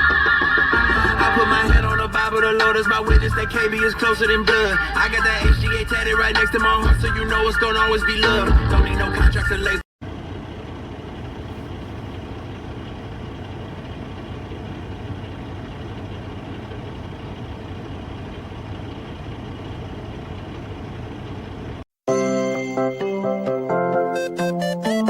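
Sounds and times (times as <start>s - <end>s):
vehicle engine rumble: 0.2s - 21.9s.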